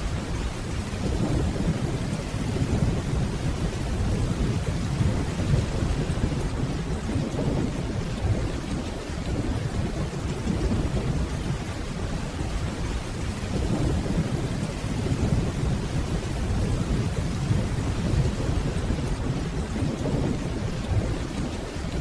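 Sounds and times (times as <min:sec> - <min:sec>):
distant rolling thunder: 0:00.0 - 0:22.0
steady rainfall: 0:00.0 - 0:22.0.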